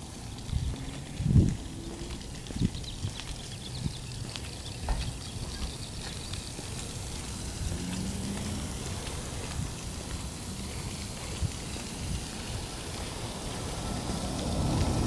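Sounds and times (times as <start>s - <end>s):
sprinkler water hissing: 0.0s - 15.0s.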